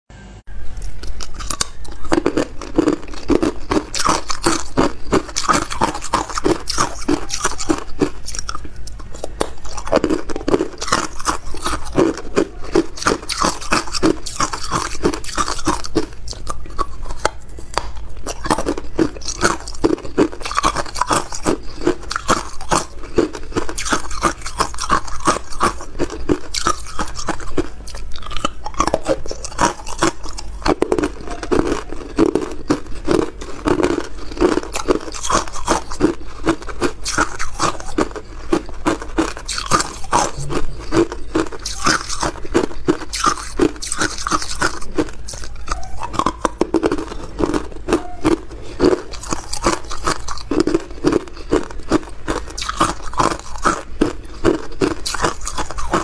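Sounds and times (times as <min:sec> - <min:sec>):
ice cubes being chewed: 0:00.7 - 0:56.0.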